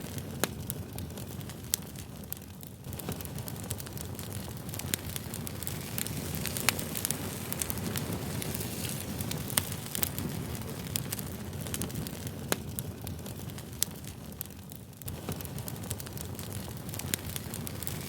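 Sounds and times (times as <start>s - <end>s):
campfire crackles and pops: 0.0s - 18.0s
campfire low rush: 0.0s - 18.0s.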